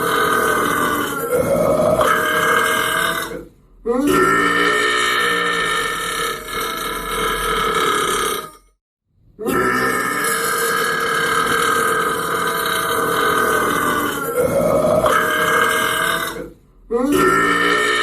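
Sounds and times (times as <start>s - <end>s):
man burping: 0.0s - 8.6s, 9.4s - 18.0s.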